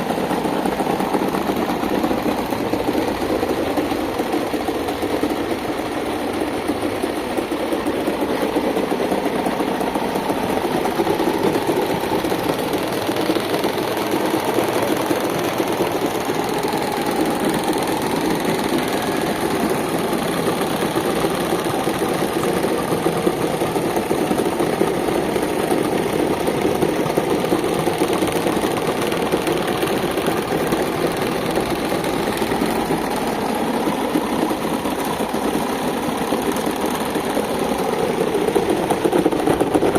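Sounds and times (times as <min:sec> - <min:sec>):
electric fan whirring: 0:00.0 - 0:39.9.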